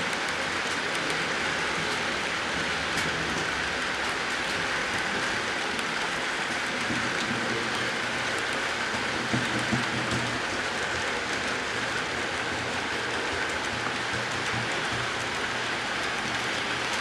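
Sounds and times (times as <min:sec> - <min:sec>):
model train cars whirring: 0:00.0 - 0:17.0.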